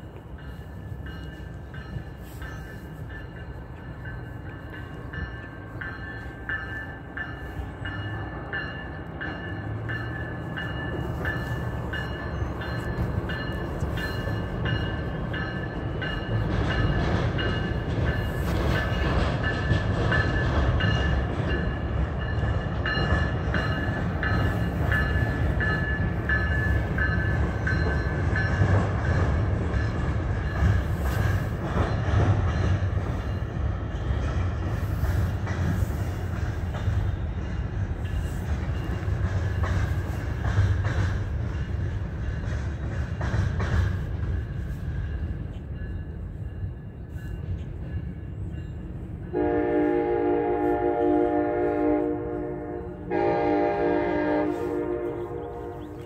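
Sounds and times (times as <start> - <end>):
train rumbling: 0.0 - 56.0
wheels clattering on rails: 0.0 - 56.0.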